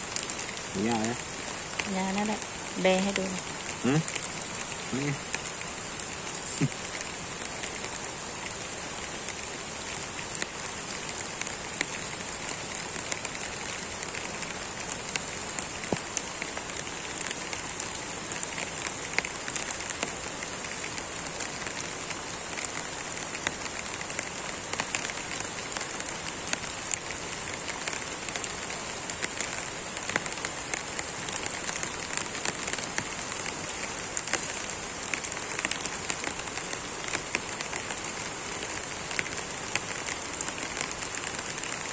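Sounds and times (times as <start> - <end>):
steady rain pattering: 0.0 - 41.9.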